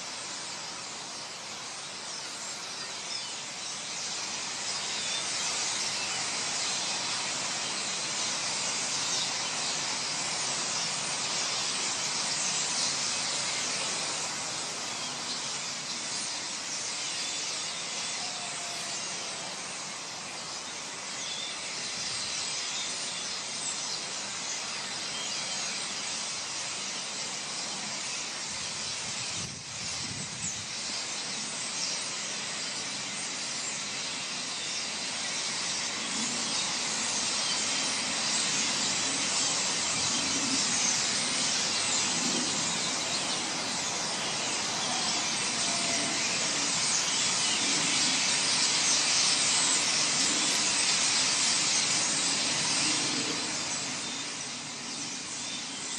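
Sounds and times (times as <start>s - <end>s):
starlings chattering: 0.1s - 55.9s.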